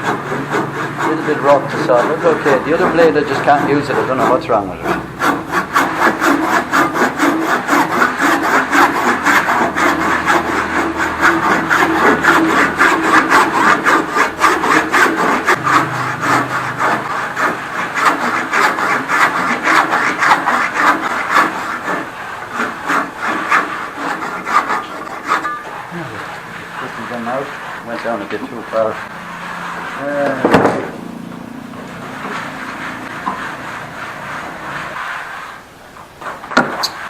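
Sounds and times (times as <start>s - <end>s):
hand saw cutting wood: 0.0s - 37.0s.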